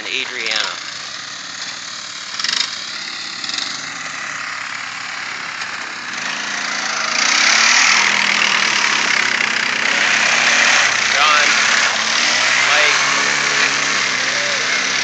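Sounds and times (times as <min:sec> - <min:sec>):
atv engines running: 0:00.0 - 0:15.0.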